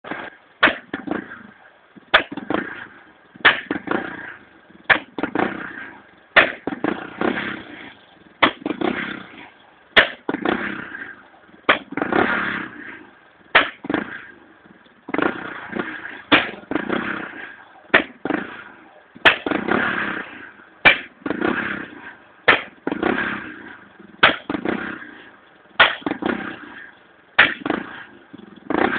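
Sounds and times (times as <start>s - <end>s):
engine misfire bangs: 0.0s - 28.9s
engine noise: 0.0s - 28.9s.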